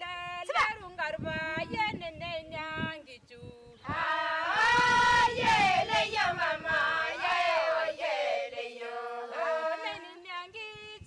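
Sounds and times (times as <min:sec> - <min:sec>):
women singing a chant: 0:00.0 - 0:11.0.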